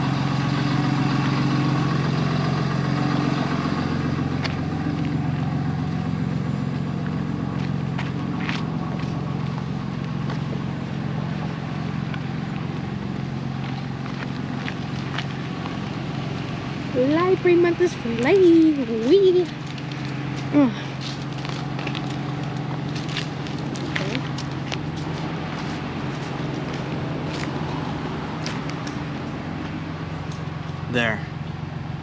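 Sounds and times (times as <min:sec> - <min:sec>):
vehicle engine idling: 0:00.0 - 0:32.0.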